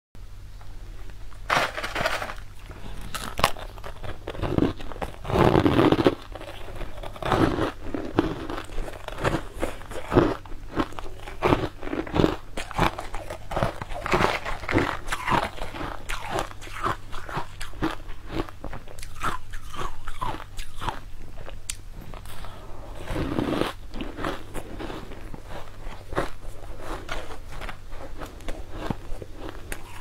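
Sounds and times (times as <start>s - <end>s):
crunching and chewing cake: 1.3s - 30.0s.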